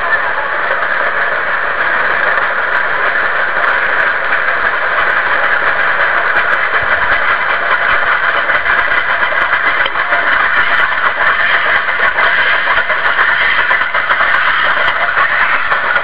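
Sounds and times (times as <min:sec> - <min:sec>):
train coaches rumbling and rattling: 0:00.0 - 0:16.0.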